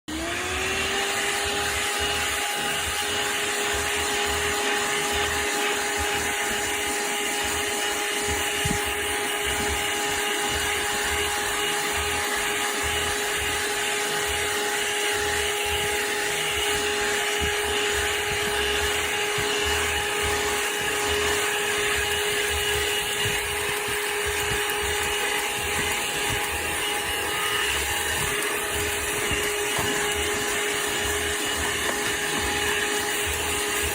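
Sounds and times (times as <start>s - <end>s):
handheld vacuum cleaner running: 0.1s - 33.9s.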